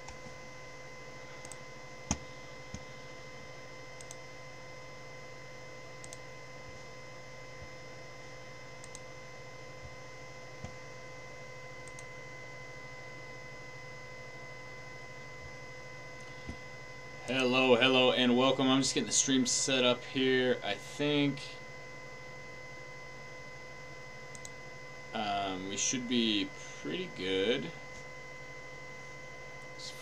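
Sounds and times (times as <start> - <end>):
steady hum with thin whine: 0.0 - 30.0.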